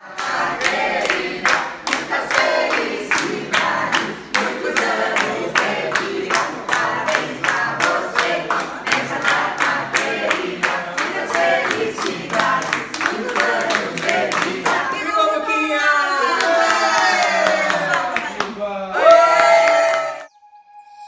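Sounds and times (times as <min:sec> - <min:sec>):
group singing: 0:00.0 - 0:18.1
people clapping along: 0:00.0 - 0:20.3.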